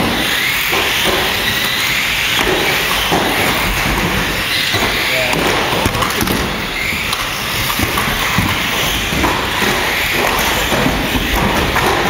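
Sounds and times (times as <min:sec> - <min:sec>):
radio-controlled cars racing: 0:00.0 - 0:12.0
toy cars knocking and clattering: 0:00.0 - 0:12.0.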